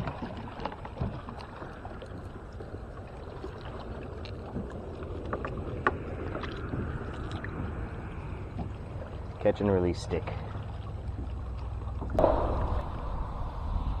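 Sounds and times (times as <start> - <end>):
water lapping on kayak hull: 0.0 - 12.2.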